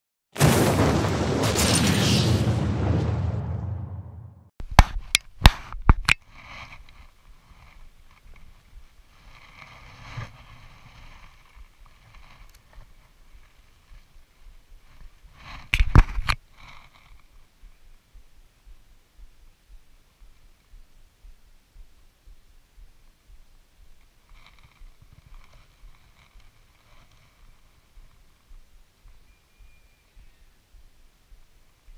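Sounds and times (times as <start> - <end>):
faint background hiss: 4.7 - 31.9.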